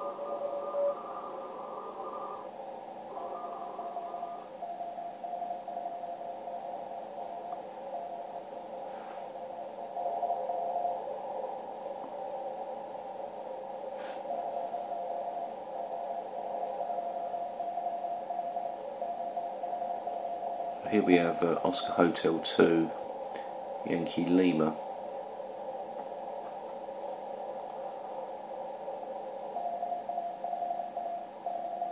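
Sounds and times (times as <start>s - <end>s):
radio band noise hiss: 0.0s - 31.9s.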